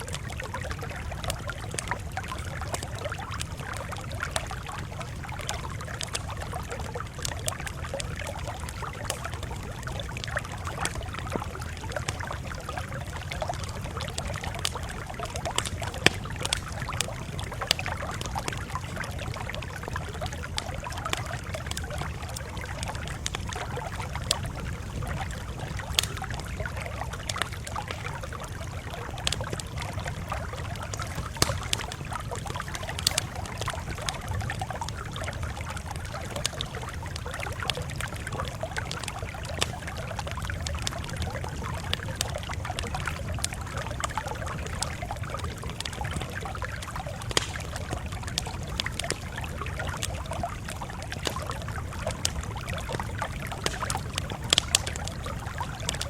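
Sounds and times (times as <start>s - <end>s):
campfire crackling: 0.0s - 56.0s
fire pops and snaps: 0.0s - 56.0s.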